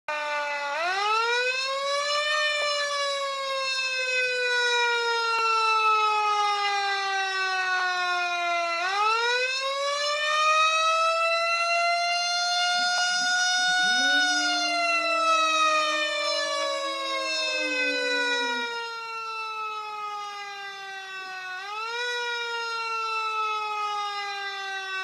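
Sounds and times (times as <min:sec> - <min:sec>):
fire truck siren wailing: 0:00.1 - 0:25.0.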